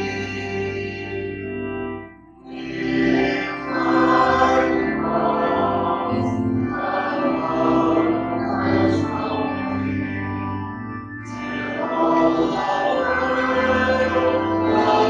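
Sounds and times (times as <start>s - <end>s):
group singing a hymn: 0.0s - 1.2s, 2.5s - 10.0s, 11.2s - 15.0s.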